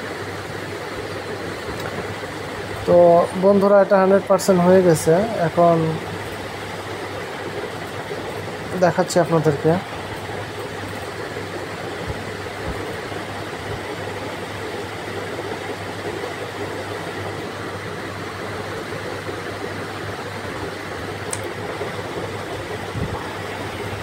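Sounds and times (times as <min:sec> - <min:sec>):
background hiss with low hum: 0:00.0 - 0:24.0.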